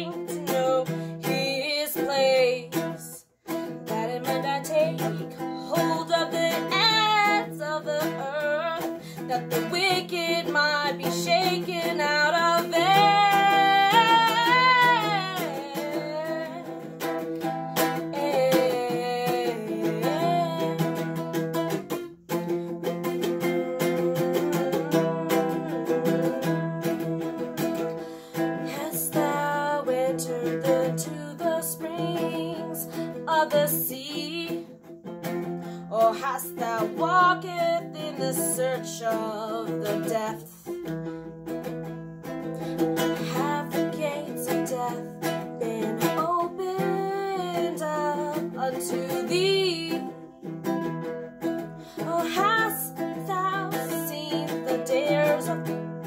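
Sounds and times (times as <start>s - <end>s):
strummed ukulele: 0.0s - 56.0s
woman singing: 0.0s - 56.0s.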